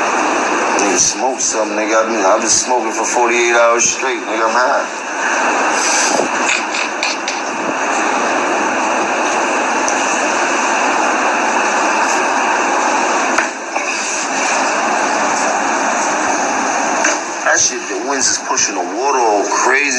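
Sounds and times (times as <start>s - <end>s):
strong wind blowing: 0.0s - 18.2s.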